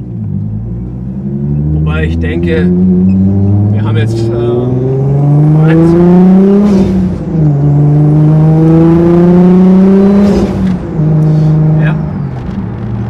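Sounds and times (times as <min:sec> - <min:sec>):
car engine revving under full throttle: 0:00.0 - 0:13.0.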